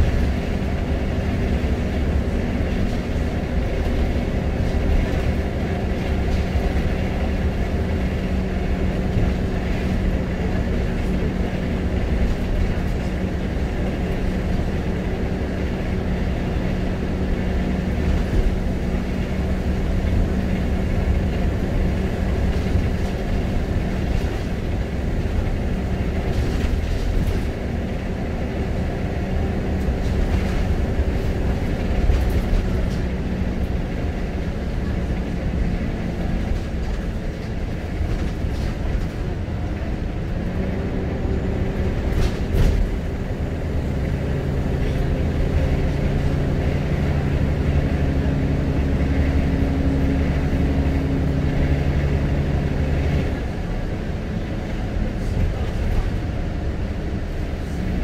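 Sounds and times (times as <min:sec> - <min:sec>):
bus engine drone: 0:00.0 - 0:58.0
road and body rumble: 0:00.0 - 0:58.0.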